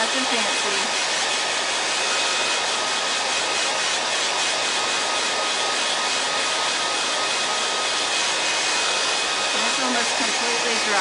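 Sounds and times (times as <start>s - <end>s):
hair dryer blowing: 0.0s - 11.0s.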